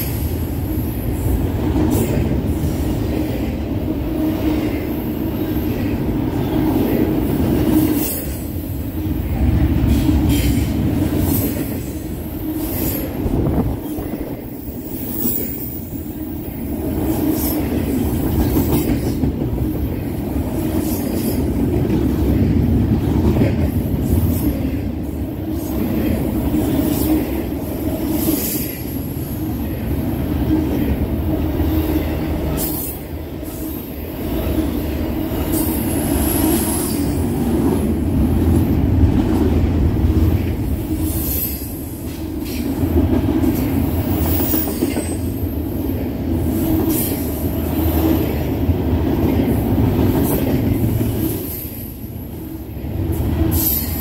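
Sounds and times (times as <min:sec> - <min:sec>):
freight train wheels rumbling: 0:00.0 - 0:54.0
train cars clanking: 0:00.0 - 0:54.0.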